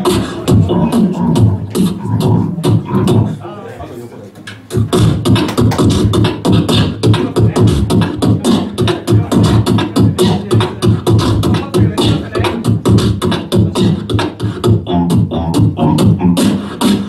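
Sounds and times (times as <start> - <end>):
beatboxing through microphone: 0.0 - 3.6, 4.2 - 17.0.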